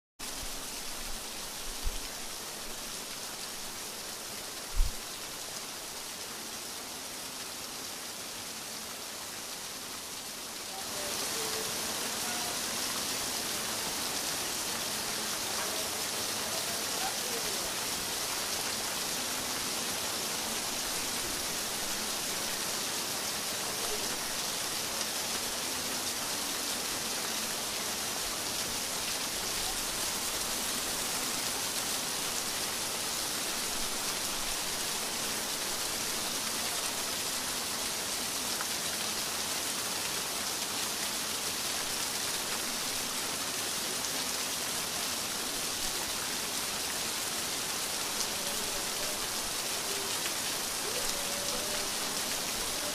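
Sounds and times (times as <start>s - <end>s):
steady rain falling: 0.2s - 52.9s.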